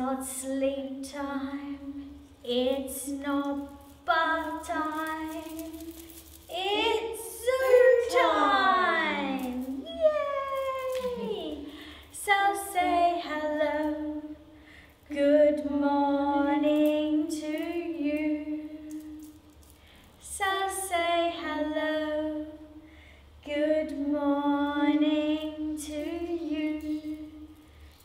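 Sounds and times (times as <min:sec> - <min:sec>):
woman singing unaccompanied: 0:00.0 - 0:14.5, 0:15.1 - 0:19.2, 0:20.2 - 0:22.6, 0:23.4 - 0:27.5.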